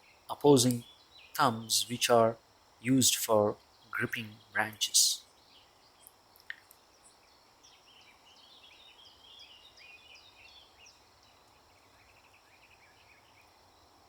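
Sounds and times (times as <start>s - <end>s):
birds chirping and twittering: 0.0s - 13.9s
background hiss: 0.0s - 14.0s.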